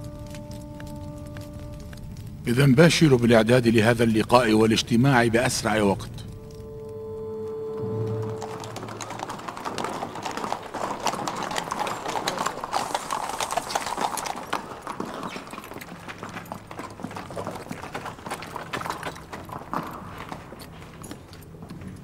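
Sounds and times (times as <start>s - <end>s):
horse hooves on stone paving: 0.0s - 22.0s.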